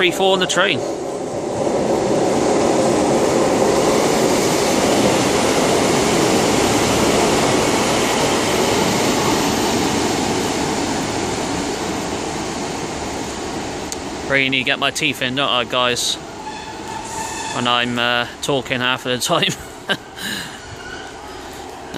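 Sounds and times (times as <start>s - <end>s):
train engines running past: 0.0s - 21.9s
train wheels on rails: 0.0s - 21.9s.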